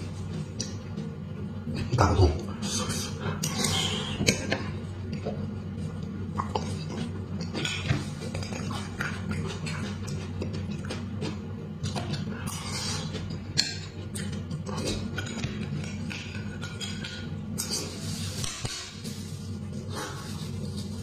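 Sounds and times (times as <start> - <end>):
wet eating sounds: 0.1 - 21.0.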